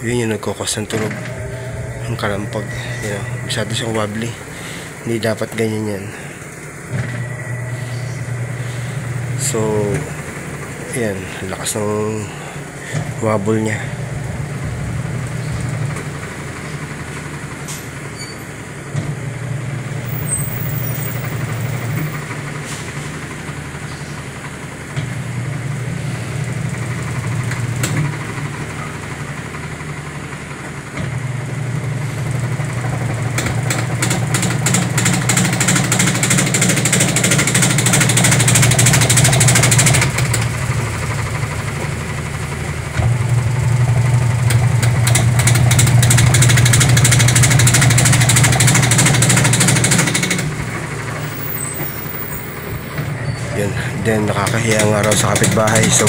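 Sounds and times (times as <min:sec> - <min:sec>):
washing machine drum humming: 0:00.0 - 0:56.0.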